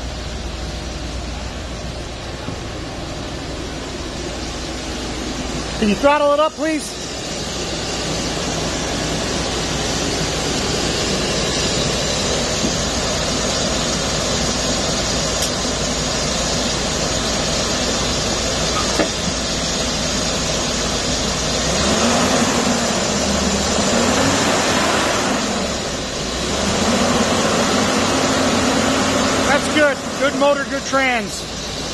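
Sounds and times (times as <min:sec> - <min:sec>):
van engine running at raised revs: 0:00.0 - 0:31.9.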